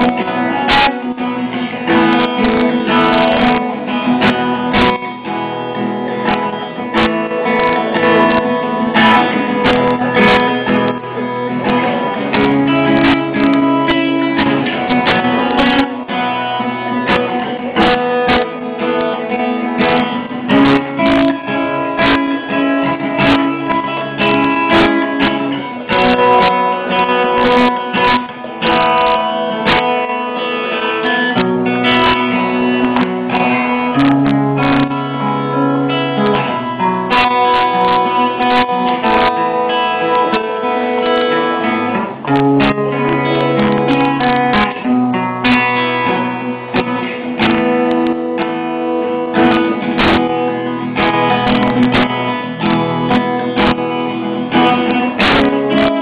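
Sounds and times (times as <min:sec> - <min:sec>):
acoustic guitar plucked and strummed: 0:00.0 - 0:56.0.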